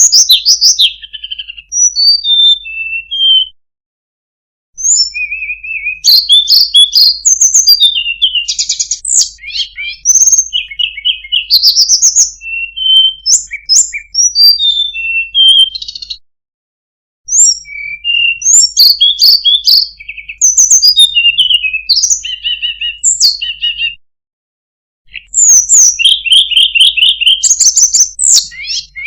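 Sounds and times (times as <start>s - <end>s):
bird singing whistles and trills: 0.0s - 3.6s, 4.8s - 16.2s, 17.3s - 24.0s, 25.1s - 29.0s.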